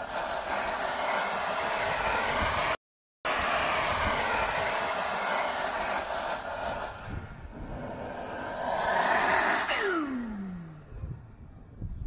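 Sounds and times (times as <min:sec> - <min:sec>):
model jet engine whine: 0:00.0 - 0:12.0.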